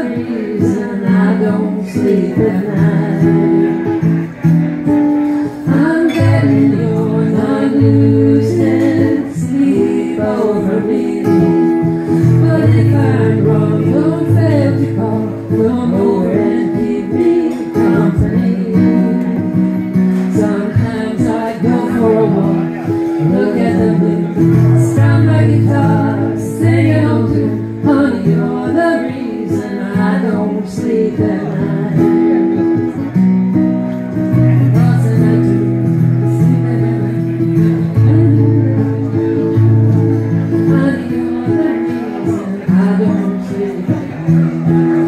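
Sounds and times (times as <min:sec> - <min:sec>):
woman singing: 0:00.0 - 0:04.2, 0:05.4 - 0:32.9, 0:34.3 - 0:44.2
acoustic guitar strummed: 0:00.0 - 0:45.0.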